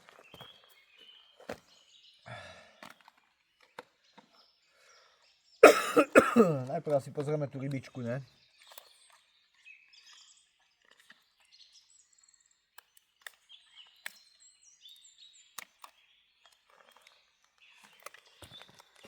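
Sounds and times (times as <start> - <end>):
faint songbirds singing: 0.0 - 19.0.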